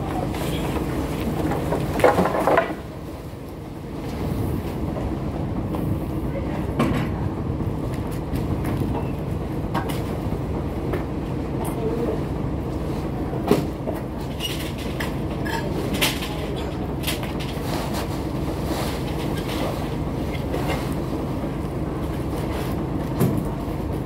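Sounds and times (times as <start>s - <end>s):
diesel lorry engine rumbling: 0.0s - 24.0s.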